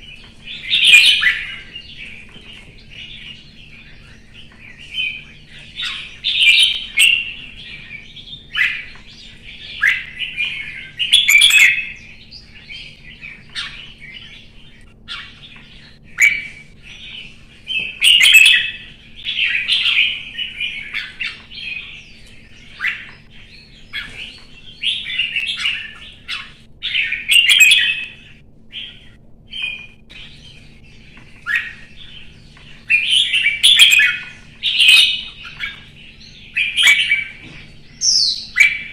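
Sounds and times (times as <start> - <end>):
bulbul singing: 0.0 - 38.9
faint steady hum: 0.0 - 38.9.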